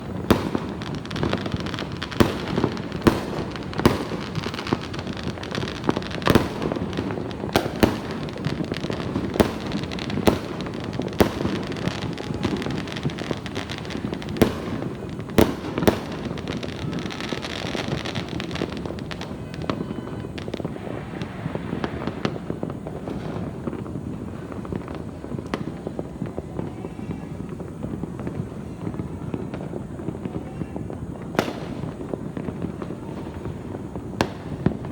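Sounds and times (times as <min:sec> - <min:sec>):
firecrackers crackling: 0:00.0 - 0:34.9
fireworks bangs: 0:00.0 - 0:34.9.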